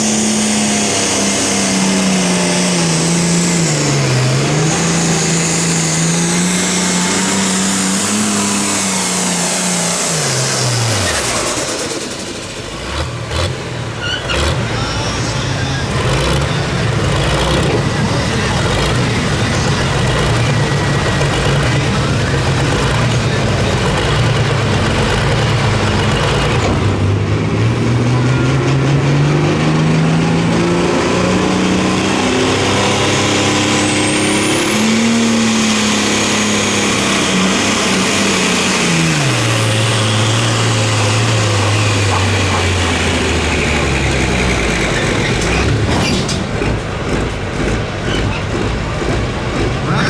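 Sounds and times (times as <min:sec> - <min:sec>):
engine at full throttle: 0:00.0 - 0:50.0.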